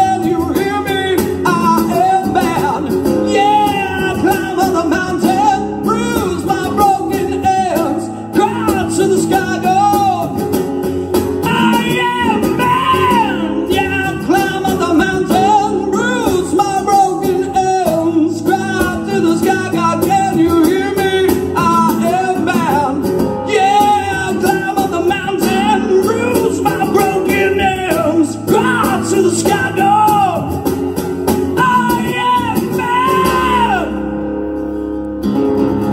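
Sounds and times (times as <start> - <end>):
person singing into microphone: 0.0 - 10.5, 11.4 - 30.6, 31.5 - 34.2
acoustic guitar: 0.0 - 35.9.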